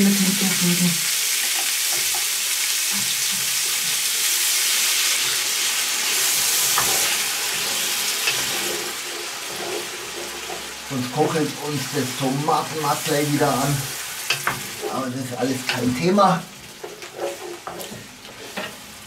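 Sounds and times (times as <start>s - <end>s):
sizzling hiss: 0.0s - 19.0s.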